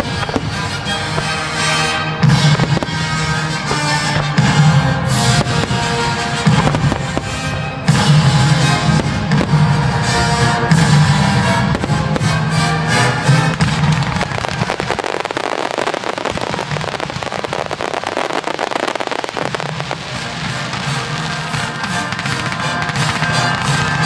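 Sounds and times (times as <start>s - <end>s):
fireworks banging and crackling: 0.0s - 24.0s
loud music: 0.0s - 24.0s.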